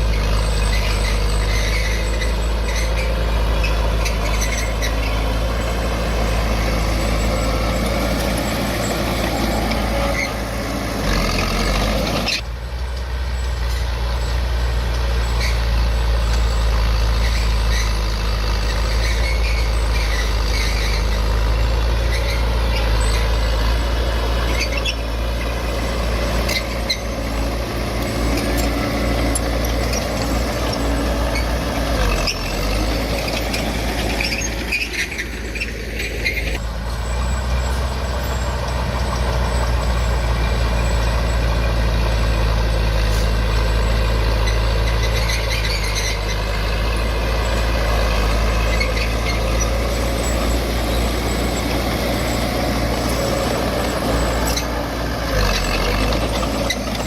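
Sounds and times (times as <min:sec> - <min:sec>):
diesel engine running: 0:00.0 - 0:57.0
short high squeaks and clicks: 0:00.1 - 0:23.8, 0:24.4 - 0:57.0.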